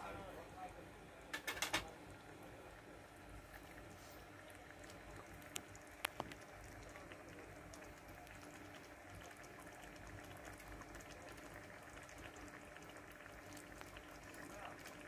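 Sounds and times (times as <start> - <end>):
sauce simmering in a pan: 0.3 - 15.0.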